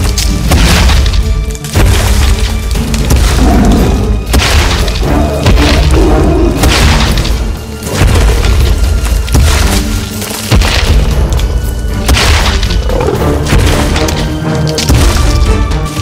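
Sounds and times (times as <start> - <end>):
dramatic background music: 0.0 - 16.0.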